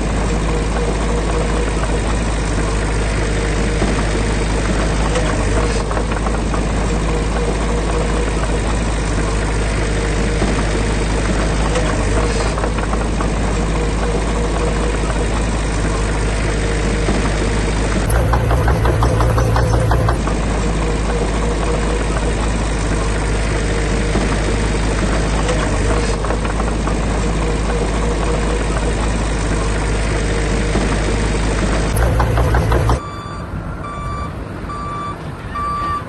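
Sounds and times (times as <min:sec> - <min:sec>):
heavy diesel engine running: 0:00.0 - 0:33.1.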